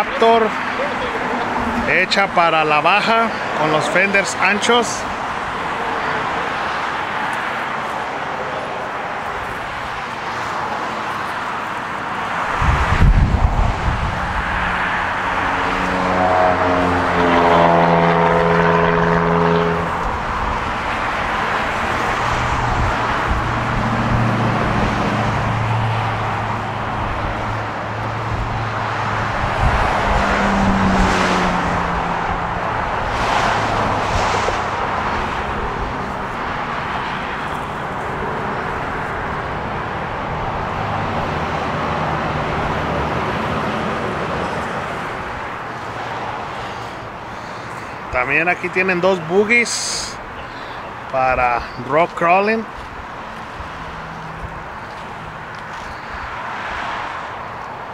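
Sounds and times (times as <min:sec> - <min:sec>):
traffic noise: 0:00.0 - 0:57.9
vehicle engines running: 0:00.0 - 0:57.9.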